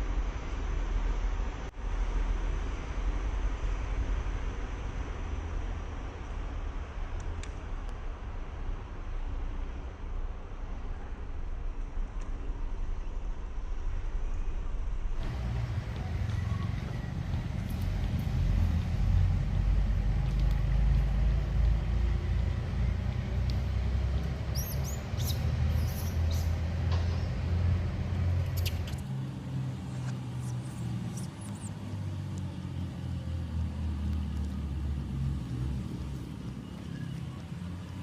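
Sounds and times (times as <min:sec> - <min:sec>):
low rumbling background noise: 0:00.0 - 0:38.0.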